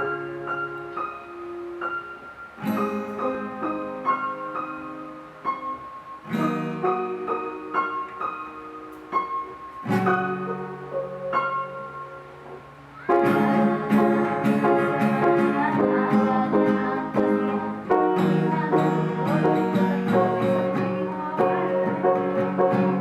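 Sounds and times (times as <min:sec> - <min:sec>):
acoustic guitar chords: 0:00.0 - 0:23.0
keyboard: 0:00.0 - 0:23.0.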